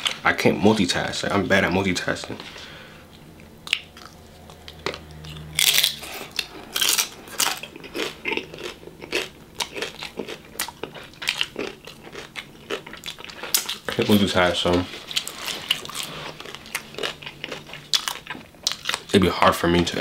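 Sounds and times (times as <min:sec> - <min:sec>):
crunchy chewing: 0:02.4 - 0:19.2.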